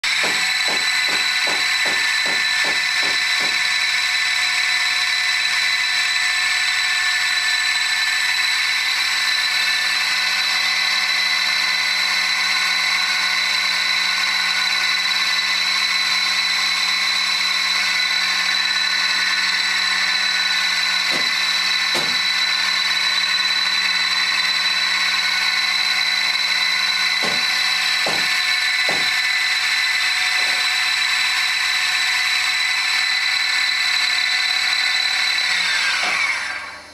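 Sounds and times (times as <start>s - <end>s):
high-pitched mechanical whine: 0.0s - 36.9s.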